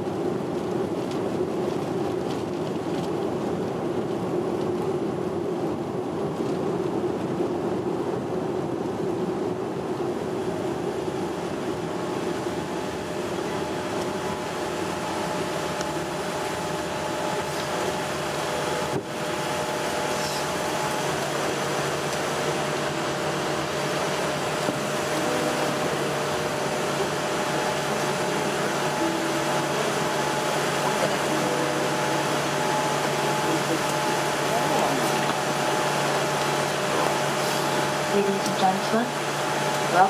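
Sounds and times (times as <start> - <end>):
airplane cabin rush and engine noise: 0.0 - 40.0
faint steady hums: 0.0 - 40.0.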